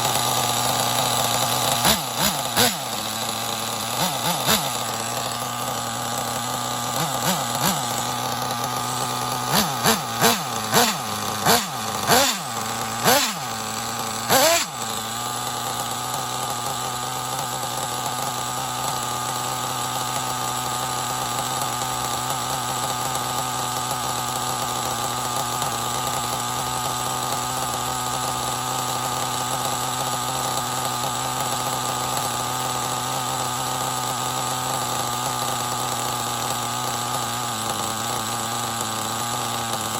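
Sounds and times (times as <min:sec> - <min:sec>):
nitro engine revving and idling: 0:00.0 - 0:39.9.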